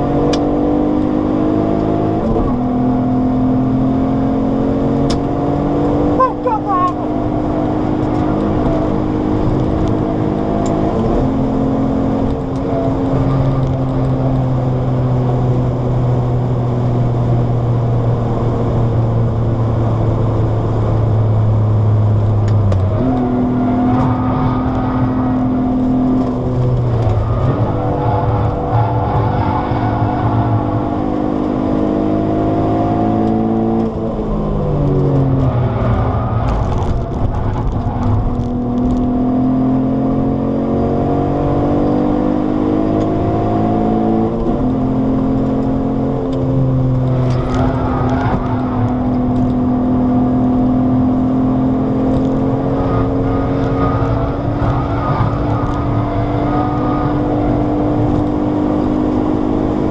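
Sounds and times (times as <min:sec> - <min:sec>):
car engine revving in cabin: 0:00.0 - 0:59.9.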